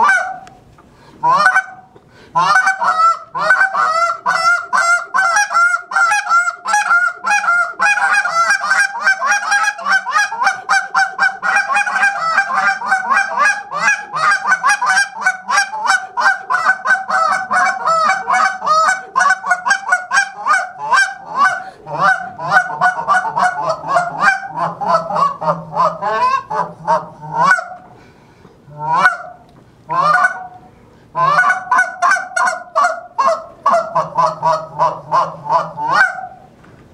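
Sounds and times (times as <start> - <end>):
goose call honks: 0.0 - 0.6, 1.2 - 28.0, 28.7 - 36.5.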